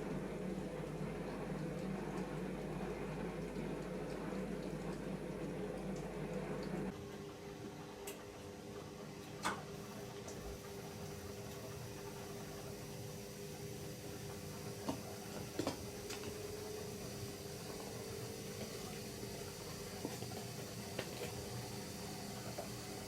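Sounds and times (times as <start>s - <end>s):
dishwasher hum: 0.0s - 23.0s.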